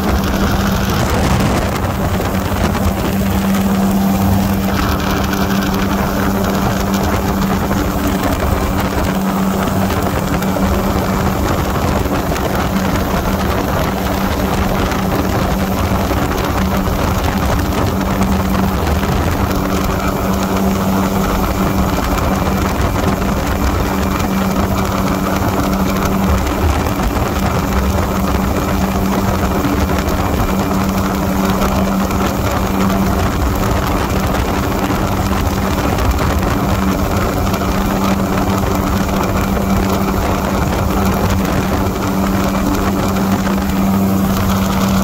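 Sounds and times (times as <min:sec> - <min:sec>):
light aircraft engine drone: 0:00.0 - 0:45.0
rushing air noise: 0:00.0 - 0:45.0.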